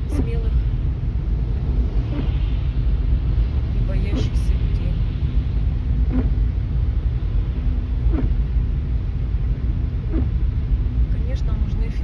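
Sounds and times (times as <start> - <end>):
car road noise on wet road: 0.0 - 12.0.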